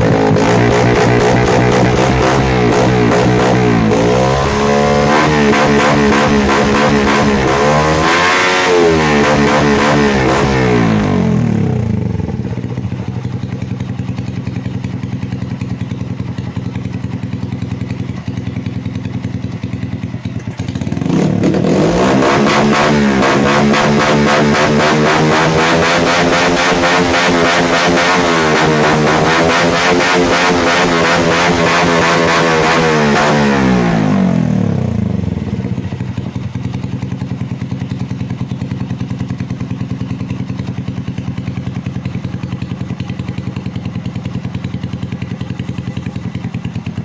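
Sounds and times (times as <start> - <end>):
motorcycle engine revving and idling: 0.0 - 47.0.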